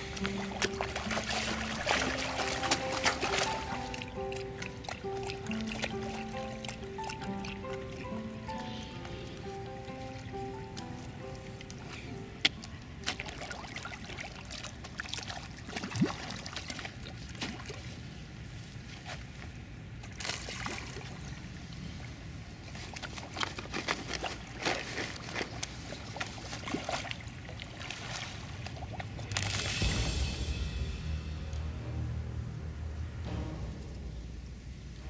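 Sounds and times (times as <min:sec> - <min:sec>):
fish splashing and slurping: 0:00.0 - 0:30.5.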